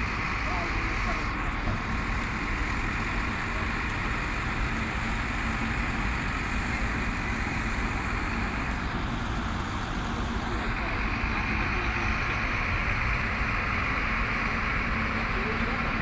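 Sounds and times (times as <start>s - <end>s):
dump truck engine droning: 0.0s - 16.0s.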